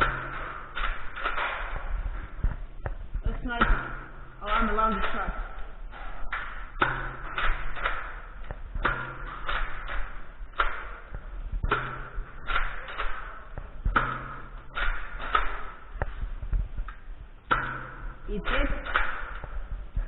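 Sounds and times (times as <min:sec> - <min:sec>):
sharp plastic clacks: 0:00.0 - 0:20.0.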